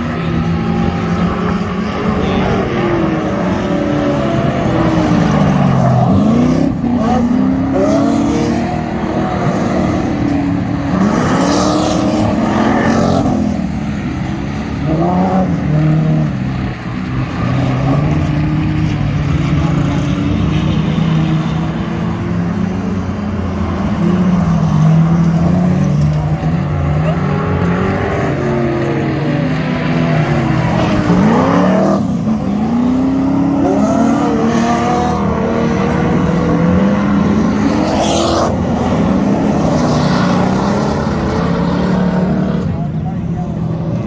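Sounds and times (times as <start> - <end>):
race car engines revving: 0.0 - 44.0.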